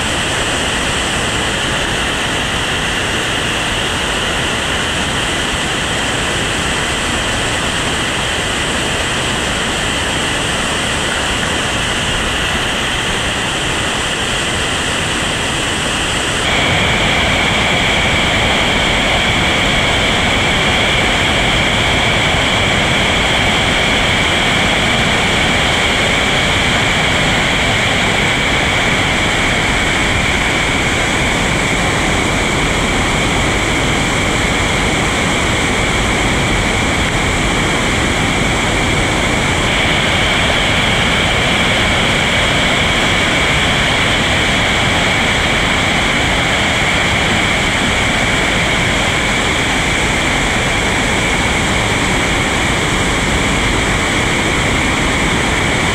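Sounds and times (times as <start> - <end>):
rushing churning water: 0.0 - 55.9.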